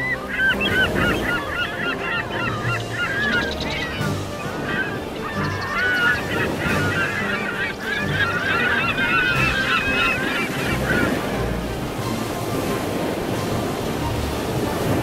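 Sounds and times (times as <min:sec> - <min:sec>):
flock of birds honking and squealing: 0:00.0 - 0:15.0
water: 0:00.0 - 0:15.0
wind: 0:00.0 - 0:15.0.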